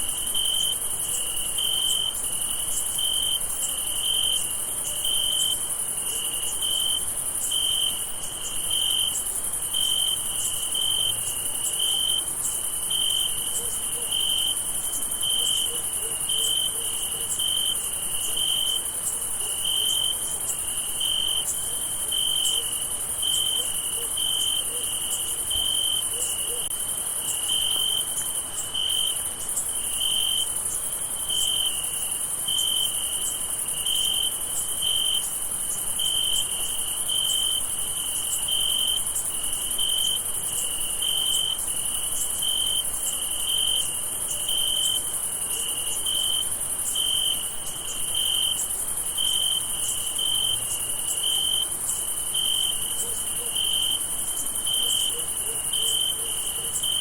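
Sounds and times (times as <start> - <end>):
cricket chirping slowly: 0.0 - 57.0.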